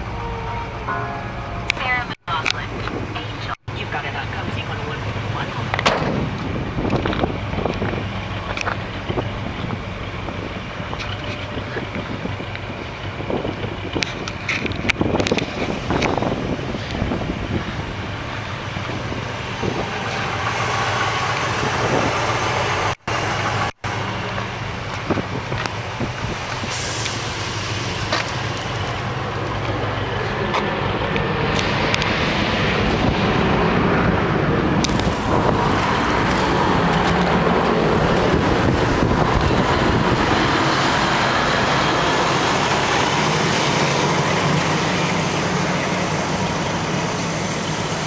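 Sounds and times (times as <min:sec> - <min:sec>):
engine running: 0:00.0 - 0:48.0.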